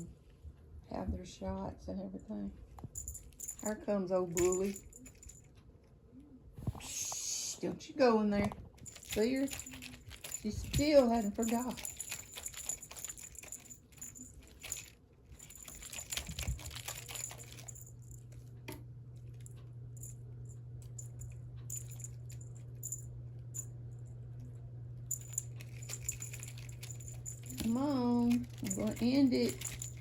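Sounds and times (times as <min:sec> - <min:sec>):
steady low hum: 0:00.0 - 0:30.0
light clicks and jingles: 0:02.2 - 0:05.7, 0:08.3 - 0:30.0.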